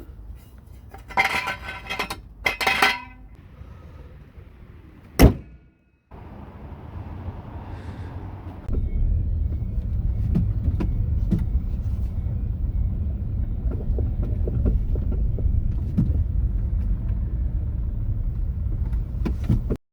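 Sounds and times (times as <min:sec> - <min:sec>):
car engine rumble: 0:00.0 - 0:19.8.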